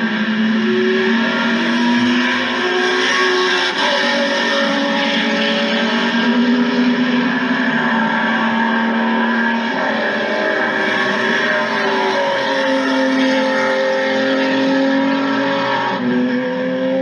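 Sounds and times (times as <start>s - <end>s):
race car engine high revs: 0.0s - 17.0s.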